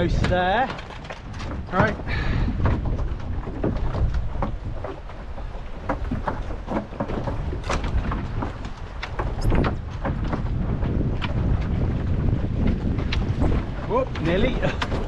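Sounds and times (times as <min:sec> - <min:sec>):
rain and water splashes: 0:00.0 - 0:15.0
wind buffeting microphone: 0:00.0 - 0:15.0.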